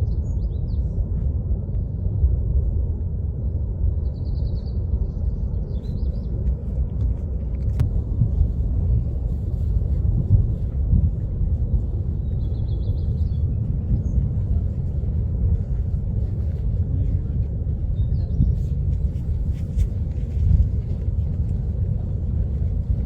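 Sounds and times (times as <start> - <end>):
lava fountain deep rumble: 0.0 - 23.0.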